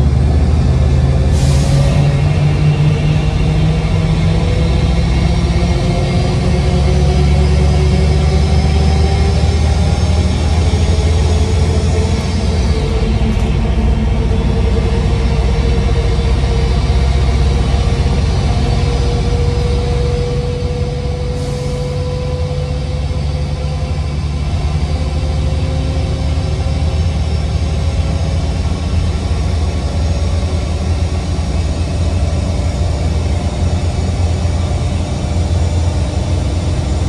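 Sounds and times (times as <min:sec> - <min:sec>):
bus engine drone with whine: 0:00.0 - 0:37.0.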